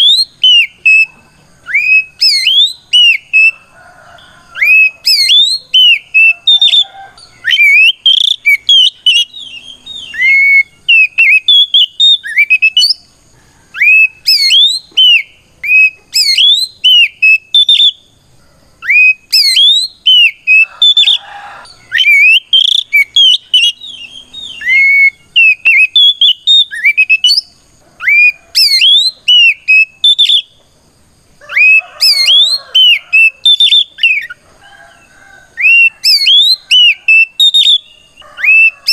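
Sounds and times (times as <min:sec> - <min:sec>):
bird singing whistled notes: 0:00.0 - 0:13.1, 0:13.7 - 0:18.2, 0:18.8 - 0:30.6, 0:31.4 - 0:34.4, 0:35.5 - 0:38.9.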